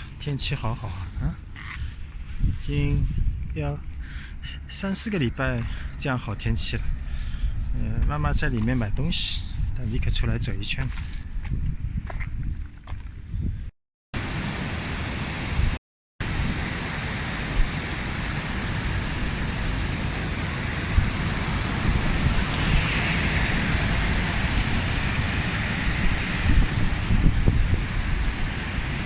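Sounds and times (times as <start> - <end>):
wind buffeting microphone: 0.0 - 13.7, 17.4 - 29.0.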